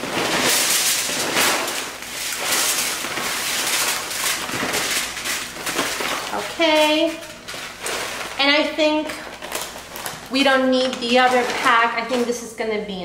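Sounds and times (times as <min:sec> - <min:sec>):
bag rustling: 0:00.0 - 0:12.5
chips clattering on foil: 0:00.0 - 0:12.7.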